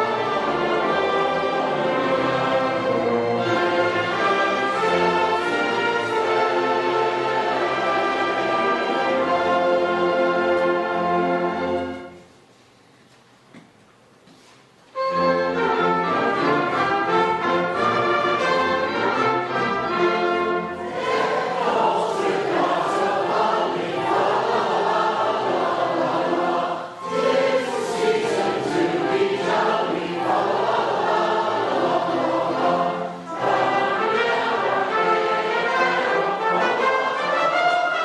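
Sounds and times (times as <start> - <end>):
choir singing sustained notes: 0.0 - 12.2, 15.2 - 38.0
orchestral music: 0.0 - 12.3, 15.0 - 38.0.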